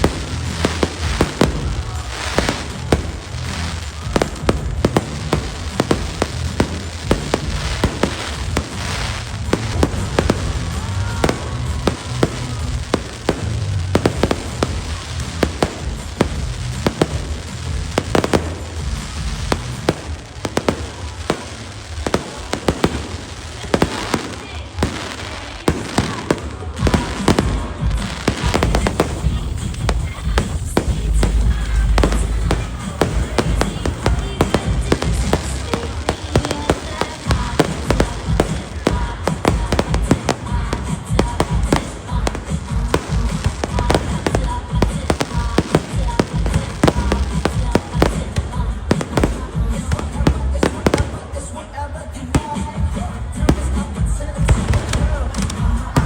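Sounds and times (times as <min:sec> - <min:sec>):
background music: 0:00.0 - 0:56.0
fireworks bangs and pops: 0:00.0 - 0:56.0.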